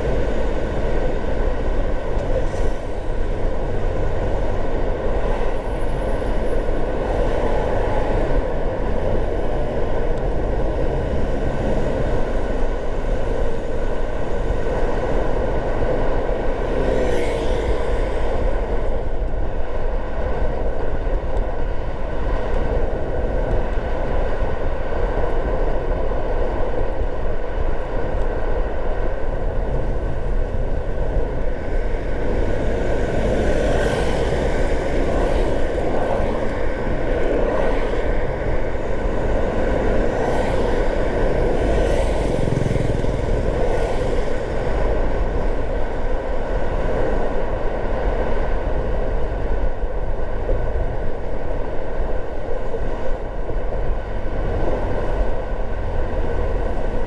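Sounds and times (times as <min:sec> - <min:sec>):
car road and tyre noise: 0:00.0 - 0:57.0.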